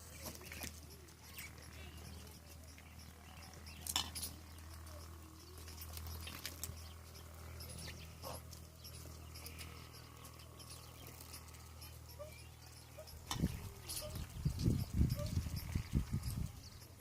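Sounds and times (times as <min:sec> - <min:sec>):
peafowl pecking grain taps: 0:00.0 - 0:14.2
steady low hum: 0:00.0 - 0:17.0.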